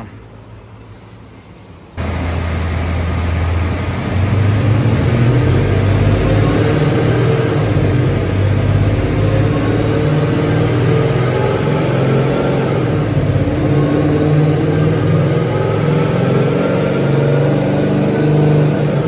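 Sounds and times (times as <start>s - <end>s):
car engine running: 2.0s - 19.0s.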